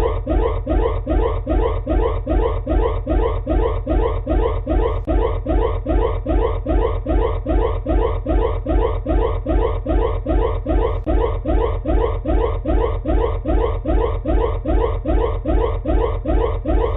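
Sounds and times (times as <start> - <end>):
rising synthesized alarm whoop: 0.0 - 16.9.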